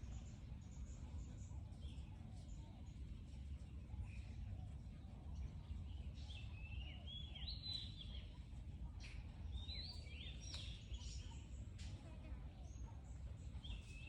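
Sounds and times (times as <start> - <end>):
birds chirping: 0.0 - 14.0
low outdoor rumble: 0.0 - 14.0.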